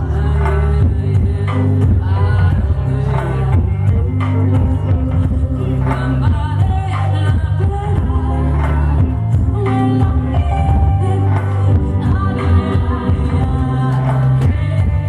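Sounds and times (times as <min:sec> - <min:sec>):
live band playing: 0:00.0 - 0:15.0
low bass line: 0:00.0 - 0:15.0
person singing: 0:00.0 - 0:15.0.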